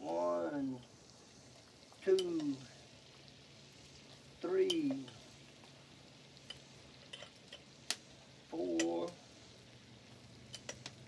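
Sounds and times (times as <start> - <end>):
butter sizzling in a pot: 0.0 - 11.0.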